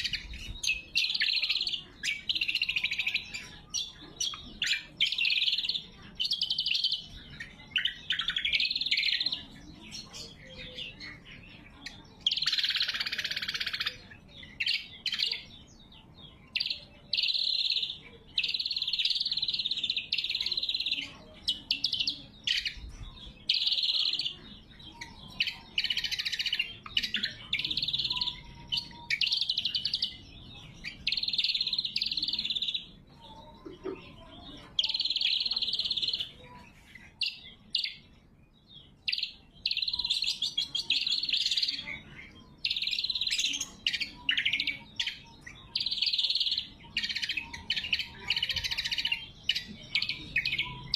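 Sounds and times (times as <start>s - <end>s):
bird singing loud sharp phrases: 0.0s - 50.9s.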